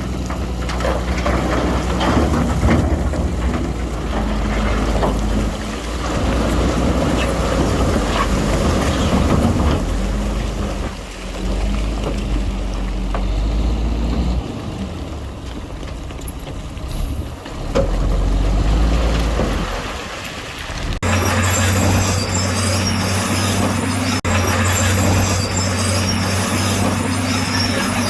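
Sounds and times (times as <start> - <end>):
heavy machinery diesel engines: 0.0 - 28.0.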